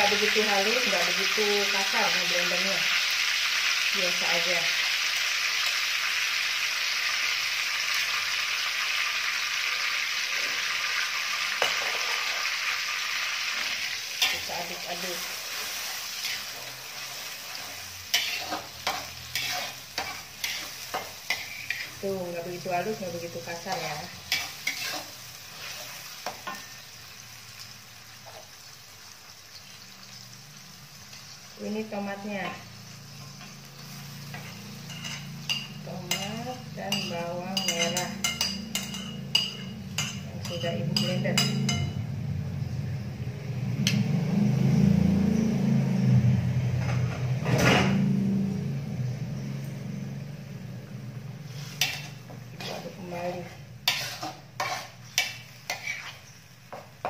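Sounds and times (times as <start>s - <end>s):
paste sizzling in hot oil: 0.0s - 42.0s, 51.2s - 57.0s.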